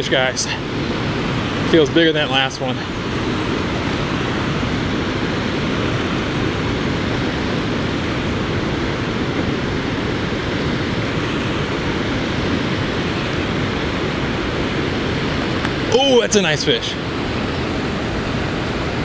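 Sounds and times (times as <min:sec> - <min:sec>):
water rushing through spillway: 0:00.0 - 0:19.0.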